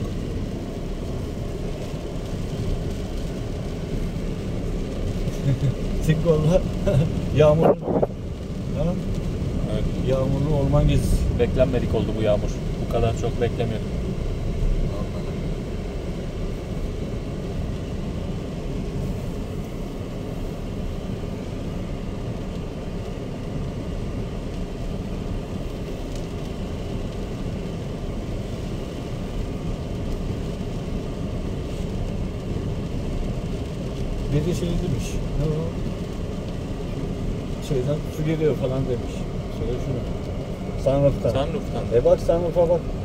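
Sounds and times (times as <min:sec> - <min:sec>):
car engine hum: 0:00.0 - 0:43.0
road and tyre noise: 0:00.0 - 0:43.0.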